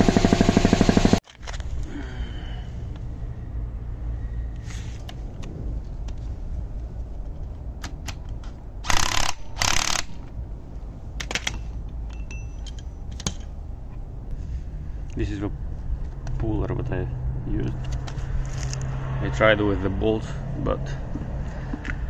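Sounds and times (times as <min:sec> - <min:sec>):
steady low rumble: 0:01.4 - 0:22.0.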